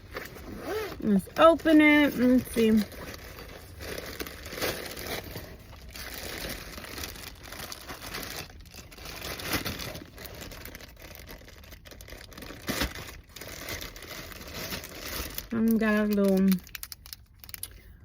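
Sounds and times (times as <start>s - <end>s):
packaging torn and crinkled: 0.0s - 17.8s.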